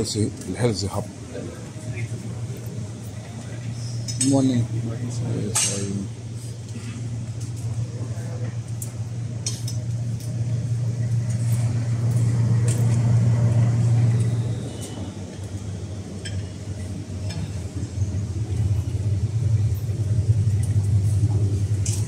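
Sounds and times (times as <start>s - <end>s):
distant voices: 0.0s - 22.0s
steady low hum: 0.0s - 22.0s.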